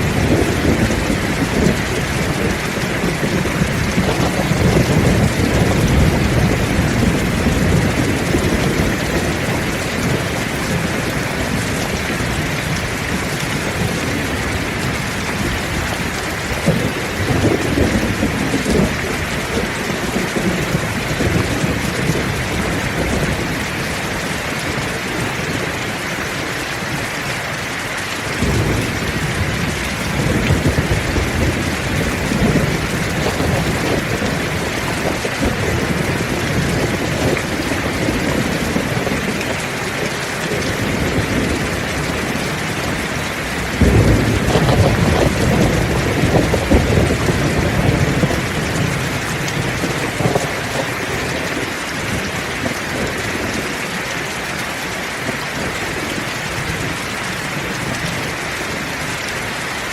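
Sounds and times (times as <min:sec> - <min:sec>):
rolling thunder: 0:00.0 - 0:26.0, 0:28.2 - 0:53.8
heavy rain: 0:00.0 - 0:59.9.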